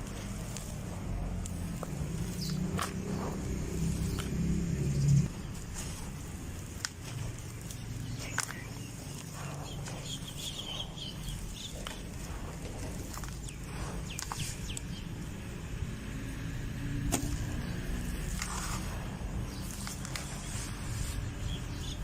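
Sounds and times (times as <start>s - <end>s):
birds chirping: 0.0s - 22.0s
dirt crumbling and crunching: 0.0s - 22.0s.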